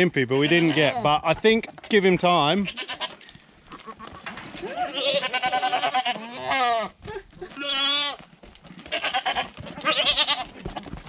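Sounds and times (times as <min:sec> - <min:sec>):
goats bleating: 0:00.3 - 0:11.0.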